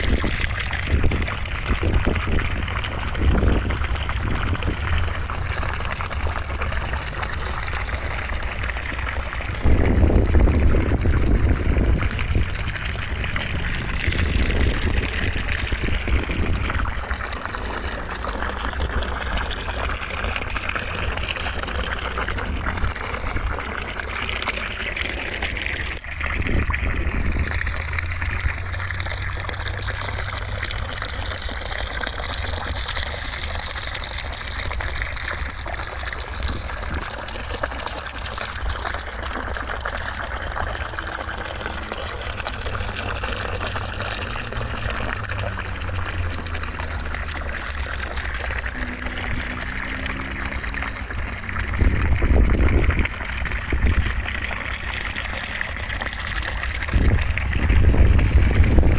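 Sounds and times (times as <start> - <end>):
gushing running water: 0.0 - 58.9.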